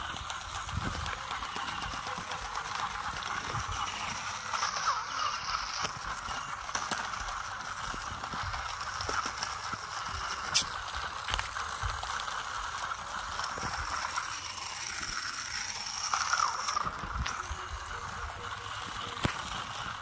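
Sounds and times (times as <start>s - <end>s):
toy car motor whine: 0.0s - 20.0s
wheels clicking on rough concrete: 0.0s - 20.0s.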